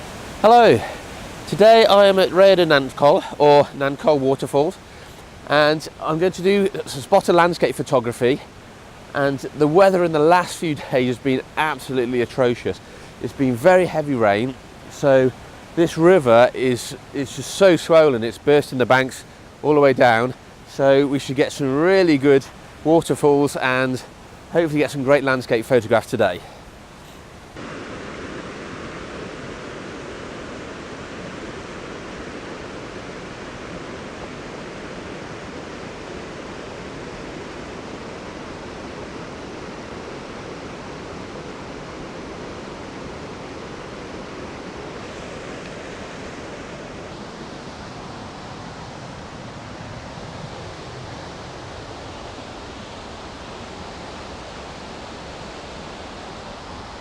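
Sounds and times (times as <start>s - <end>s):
river rushing over waterfalls: 0.0s - 57.0s.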